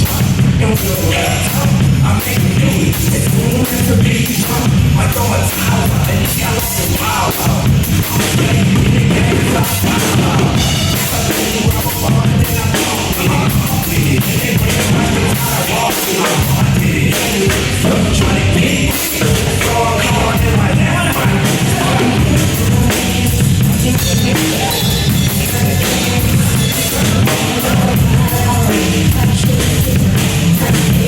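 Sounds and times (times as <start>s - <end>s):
drum kit playing: 0.0s - 31.0s
rock music with vocals: 0.0s - 31.0s.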